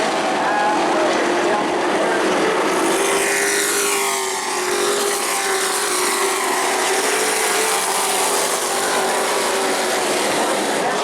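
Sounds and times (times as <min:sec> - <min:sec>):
racing truck engines at high revs: 0:00.0 - 0:11.0.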